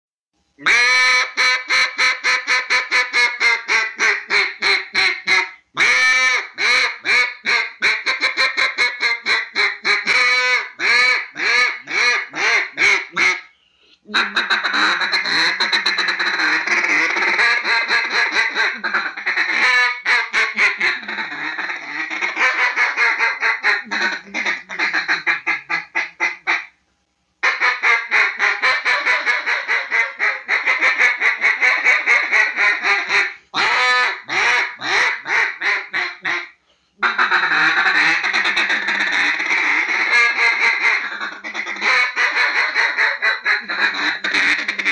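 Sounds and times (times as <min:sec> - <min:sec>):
mallard quacking: 0:00.6 - 0:13.5, 0:14.1 - 0:26.7, 0:27.4 - 0:44.9.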